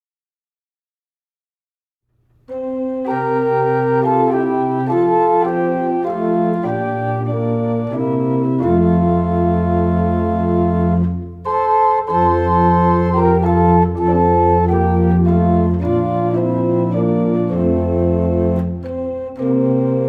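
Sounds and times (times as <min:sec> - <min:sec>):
organ playing slow chords: 0:02.5 - 0:20.0.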